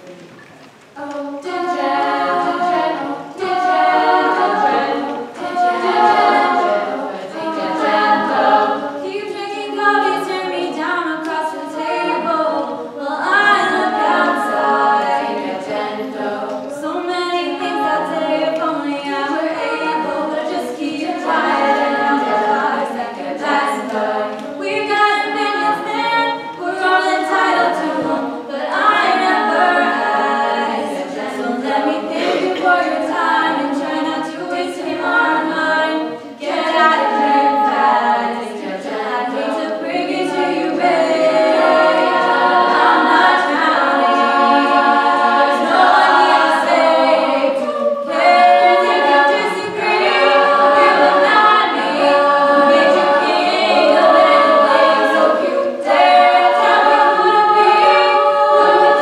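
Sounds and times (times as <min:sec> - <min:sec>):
a cappella group singing: 0:00.8 - 0:59.0.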